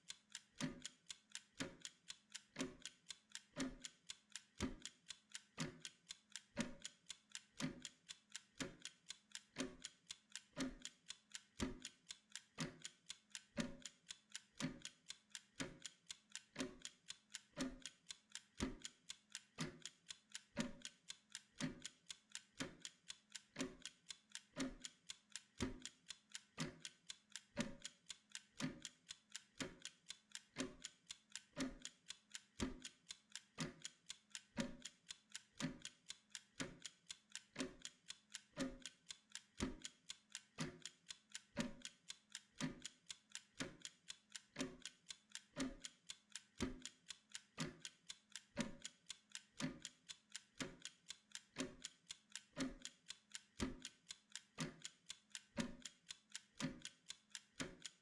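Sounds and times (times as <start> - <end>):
kitchen timer ticking: 0.0 - 58.0.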